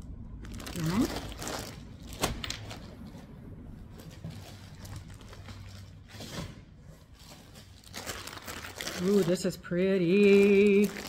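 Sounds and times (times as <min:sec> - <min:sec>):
low steady hum: 0:00.0 - 0:11.0
yarn handling noises: 0:00.4 - 0:11.0.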